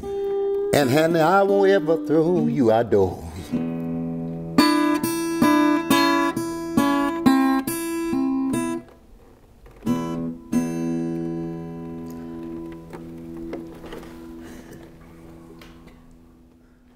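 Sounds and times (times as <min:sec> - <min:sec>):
acoustic guitar playing: 0:00.0 - 0:16.9.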